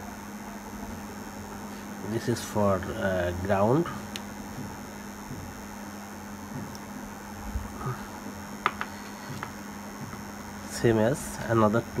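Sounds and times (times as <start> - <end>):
low hum: 0.0 - 12.0
capacitors clicking on bench: 2.2 - 12.0.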